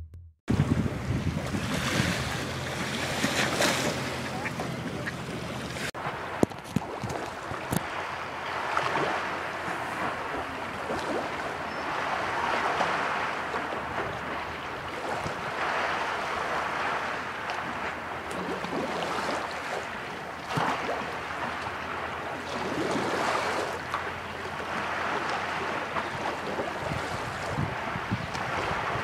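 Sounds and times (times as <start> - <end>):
lake waves lapping on shore: 0.5 - 29.0.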